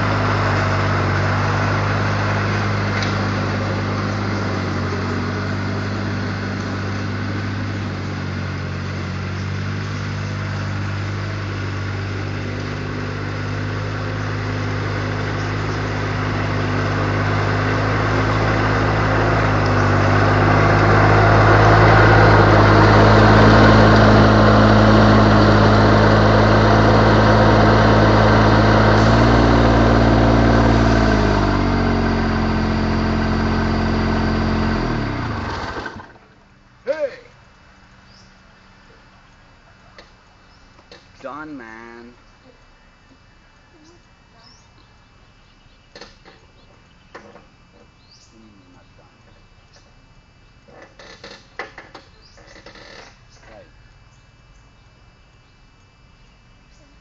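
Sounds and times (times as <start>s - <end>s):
riding mower engine running: 0.0s - 57.0s.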